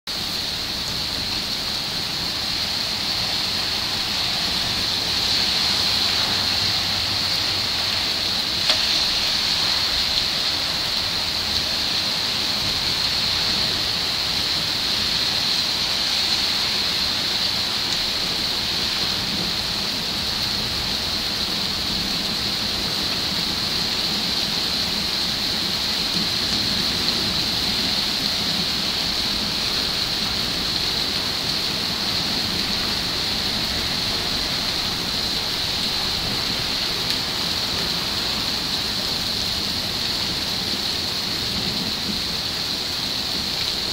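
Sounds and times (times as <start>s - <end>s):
steady rain falling: 0.1s - 43.9s.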